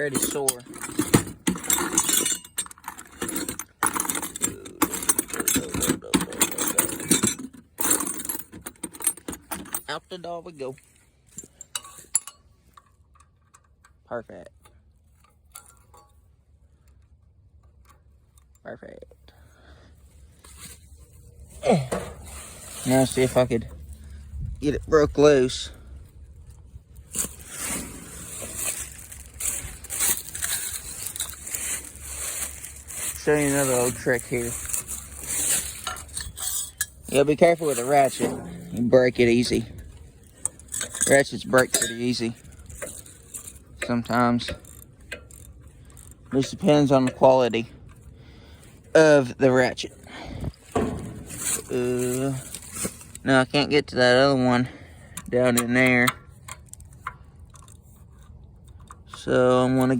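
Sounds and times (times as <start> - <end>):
metal tools clinking: 0.0 - 19.4, 20.4 - 48.6, 49.2 - 53.7.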